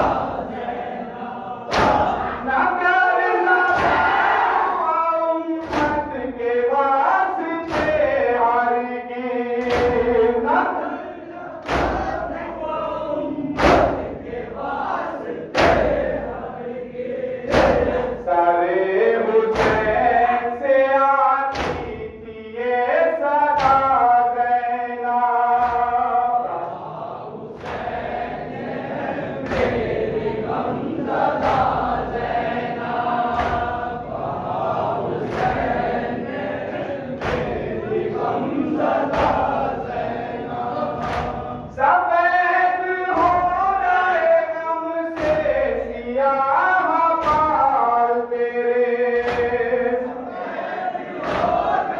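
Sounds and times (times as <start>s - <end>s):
men chanting a lament: 0.0s - 51.9s.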